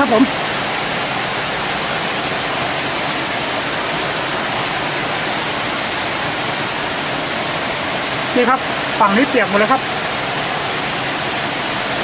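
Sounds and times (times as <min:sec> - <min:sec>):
heavy rain on a tent: 0:00.0 - 0:12.0.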